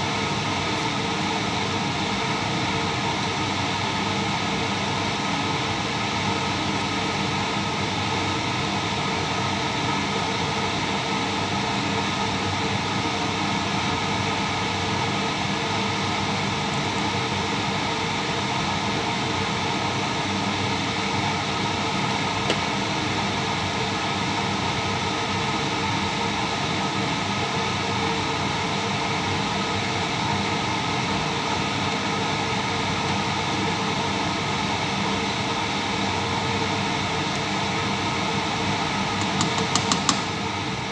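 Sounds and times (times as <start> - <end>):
fan whirring: 0.0 - 40.9.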